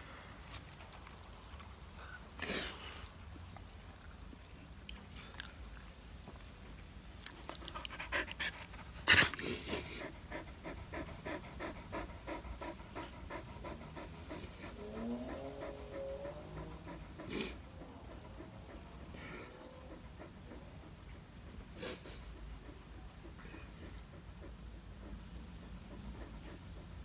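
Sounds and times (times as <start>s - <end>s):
dog panting: 0.4s - 27.0s.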